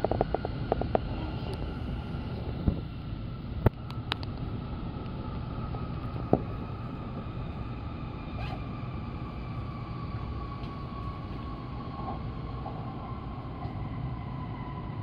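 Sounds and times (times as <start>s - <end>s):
faint whine: 0.0s - 15.0s
train cabin rumble: 0.0s - 15.0s.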